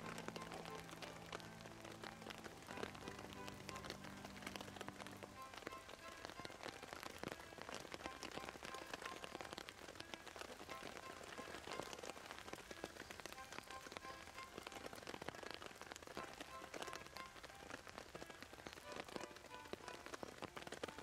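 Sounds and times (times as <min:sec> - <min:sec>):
heavy rain pattering: 0:00.0 - 0:21.0.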